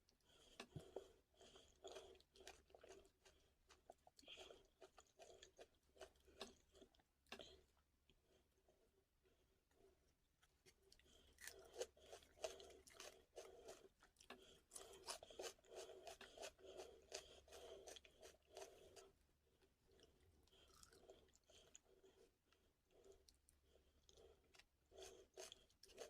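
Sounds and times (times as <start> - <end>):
person chewing food: 0.2 - 8.8, 9.7 - 26.0.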